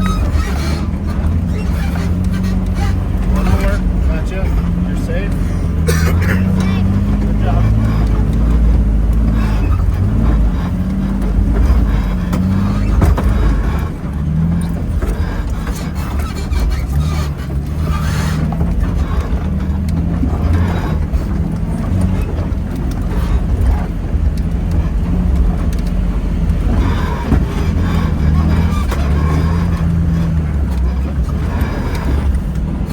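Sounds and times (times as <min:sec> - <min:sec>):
knocks and rattles from vehicle: 0:00.0 - 0:32.9
vehicle engine running at low speed: 0:00.0 - 0:32.9.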